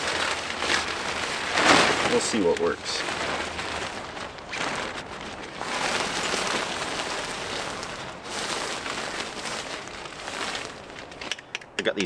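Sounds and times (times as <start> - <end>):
nylon tarp rustling: 0.0 - 11.3.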